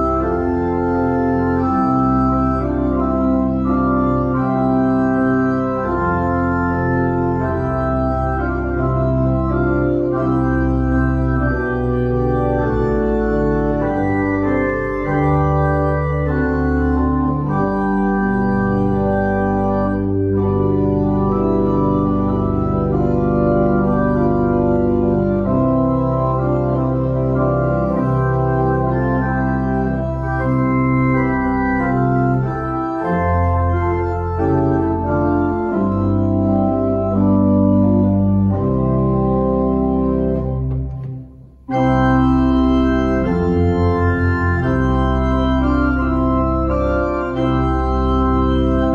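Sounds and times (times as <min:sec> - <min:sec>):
church organ chords: 0:00.0 - 0:48.9.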